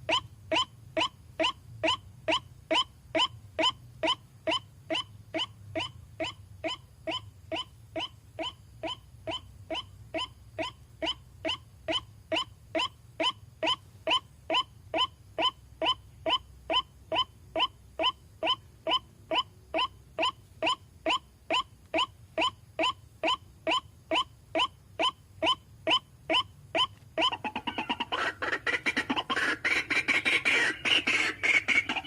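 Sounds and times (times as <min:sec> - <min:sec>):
waterhen call: 0:00.0 - 0:32.0.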